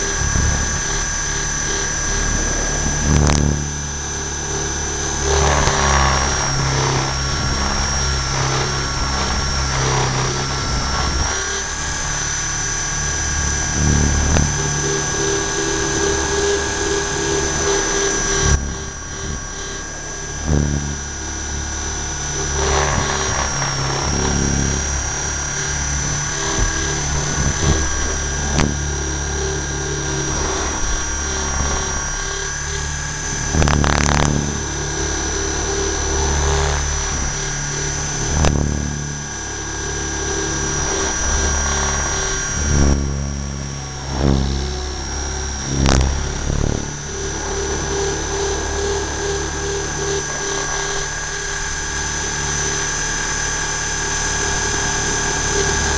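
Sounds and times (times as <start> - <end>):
rc helicopter rotor whine: 0.0 - 55.9.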